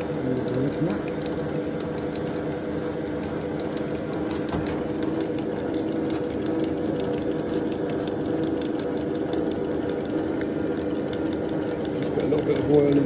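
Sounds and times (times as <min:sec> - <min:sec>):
fine ticking of cutter: 0:00.0 - 0:13.0
milling machine motor hum: 0:00.0 - 0:13.0.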